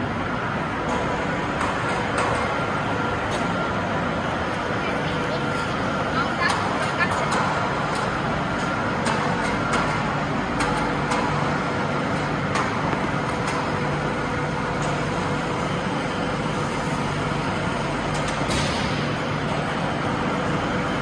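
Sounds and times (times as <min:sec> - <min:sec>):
machinery humming: 0:00.0 - 0:21.0.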